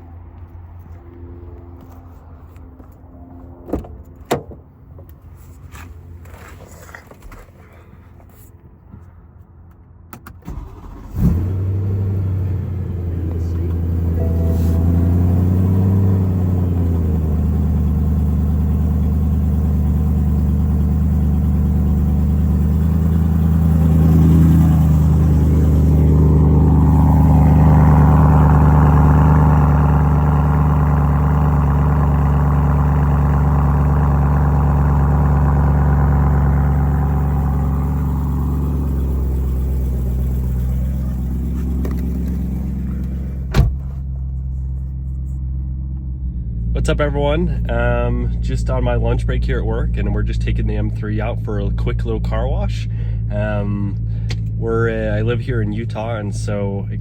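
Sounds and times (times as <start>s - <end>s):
car engine running: 10.4s - 57.0s.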